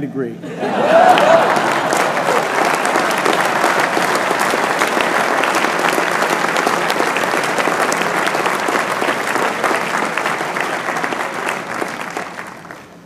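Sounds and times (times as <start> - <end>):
crowd applauding: 0.6 - 13.0.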